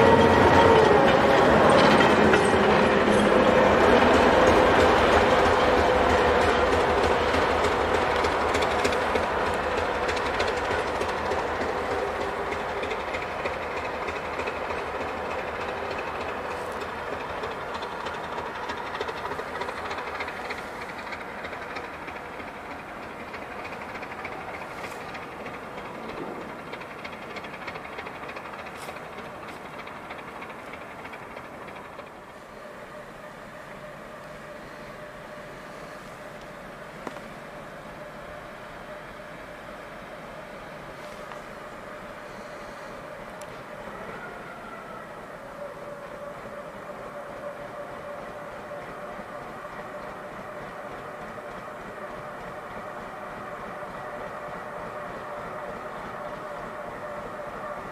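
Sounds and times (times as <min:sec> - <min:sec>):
locomotive engine: 0:00.0 - 0:57.9
train wheels on rails: 0:00.0 - 0:57.9.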